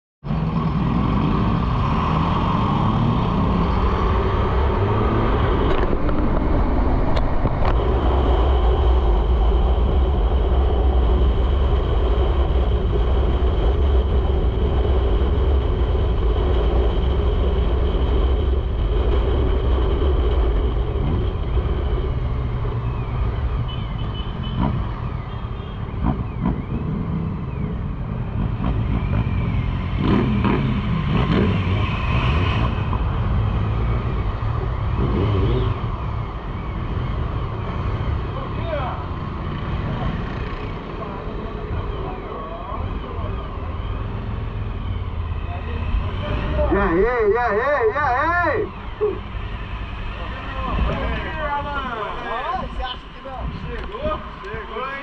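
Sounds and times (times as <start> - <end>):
vehicle engine and road rumble: 0.2 - 55.0.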